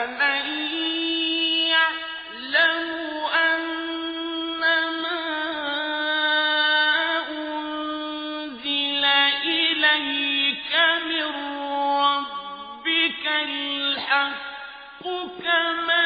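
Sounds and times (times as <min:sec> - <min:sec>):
man chanting melodically: 0:00.0 - 0:14.4.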